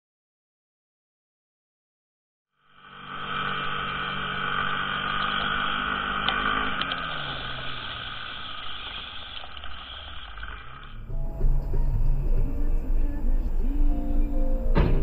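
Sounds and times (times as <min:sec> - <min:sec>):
car engine and road noise: 0:02.6 - 0:15.0
steady high whine: 0:02.6 - 0:15.0.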